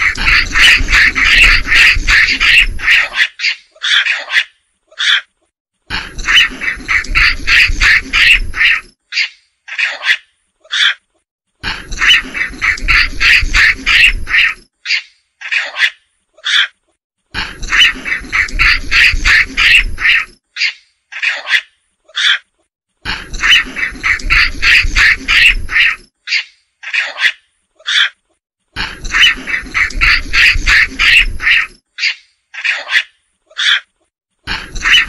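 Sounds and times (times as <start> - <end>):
macaque calls: 0.0 - 5.3, 5.9 - 11.0, 11.6 - 16.8, 17.4 - 28.2, 28.8 - 33.9, 34.5 - 35.0.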